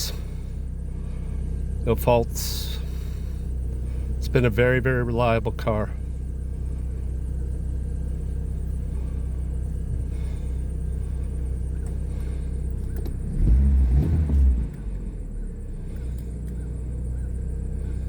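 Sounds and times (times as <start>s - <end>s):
car engine idling: 0.0s - 18.0s
low rumble: 0.0s - 18.0s.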